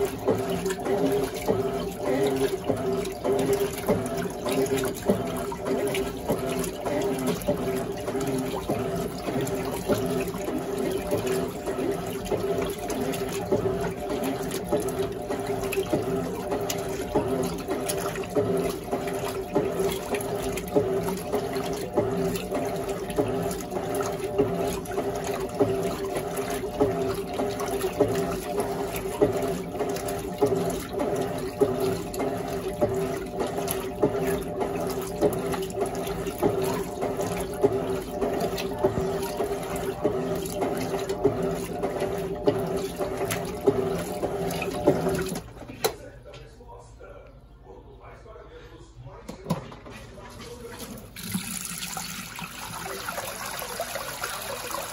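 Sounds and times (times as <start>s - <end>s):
water sloshing in washing machine: 0.0s - 46.6s, 49.2s - 54.9s
washing machine motor hum: 0.0s - 54.9s.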